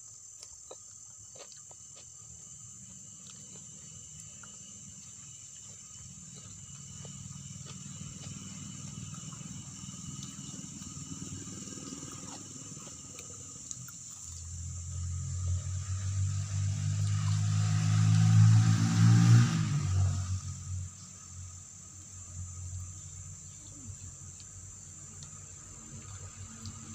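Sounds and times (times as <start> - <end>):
crickets chirping: 0.0 - 26.9
vehicle engine passing: 2.8 - 26.9.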